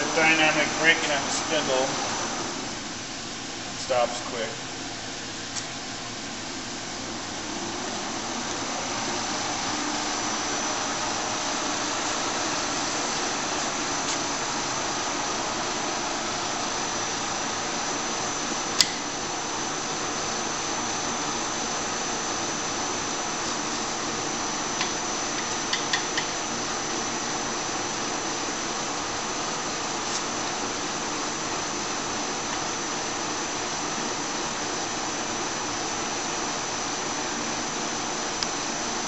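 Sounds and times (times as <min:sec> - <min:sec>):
lathe running with high whine: 0:00.0 - 0:39.0.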